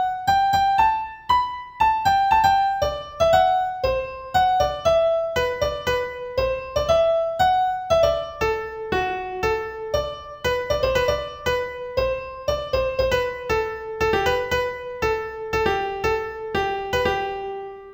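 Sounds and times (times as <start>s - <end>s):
slow piano melody: 0.0s - 17.9s.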